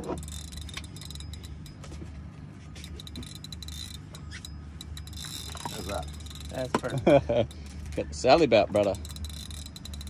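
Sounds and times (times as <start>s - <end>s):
boat engines idling: 0.0s - 10.0s
fishing reel ticking and whirring: 0.0s - 10.0s.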